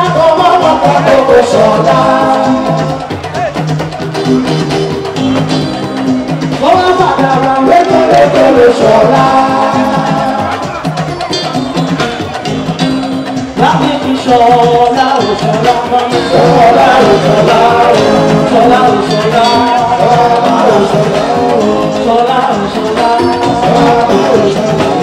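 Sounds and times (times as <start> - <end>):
loud music: 0.0 - 25.0
person singing: 0.0 - 25.0
sustained bass notes: 0.0 - 25.0.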